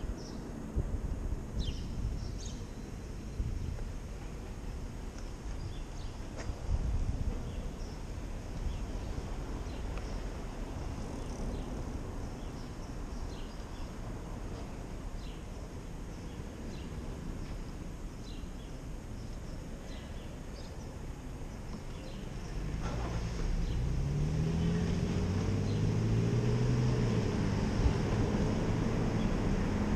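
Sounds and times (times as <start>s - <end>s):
low rumble of traffic: 0.0s - 29.9s.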